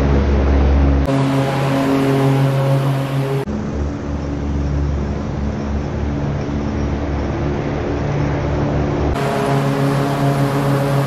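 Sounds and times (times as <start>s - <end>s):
riding mower engine droning: 0.0s - 11.0s.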